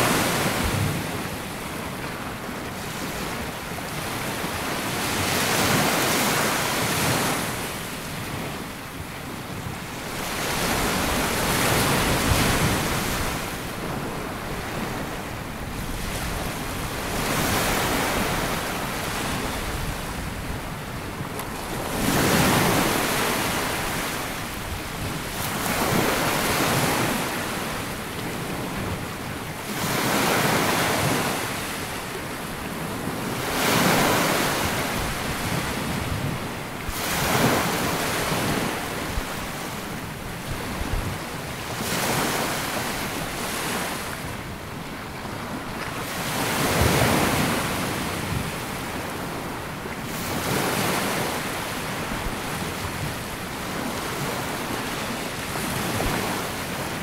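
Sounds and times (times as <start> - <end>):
small waves breaking on beach: 0.0 - 57.0
wind noise on microphone: 0.0 - 57.0.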